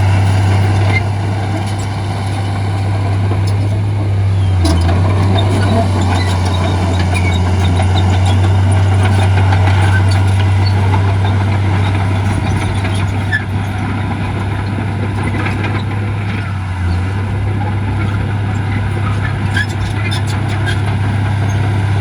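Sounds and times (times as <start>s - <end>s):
diesel machinery engine drone: 0.0s - 22.0s.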